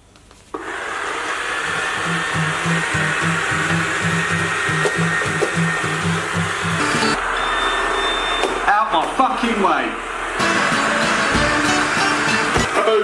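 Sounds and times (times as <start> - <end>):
robot vacuum cleaner whirring: 0.6 - 13.0.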